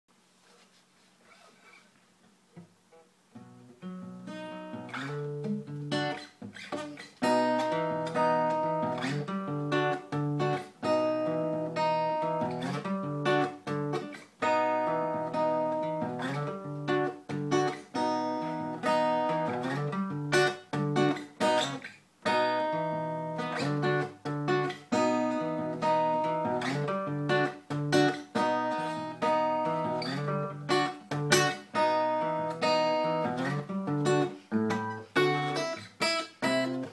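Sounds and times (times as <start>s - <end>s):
acoustic guitar: 0.2s - 36.9s.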